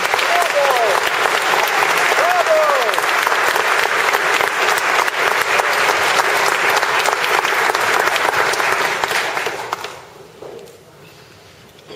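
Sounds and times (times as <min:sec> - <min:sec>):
audience applause: 0:00.0 - 0:10.2.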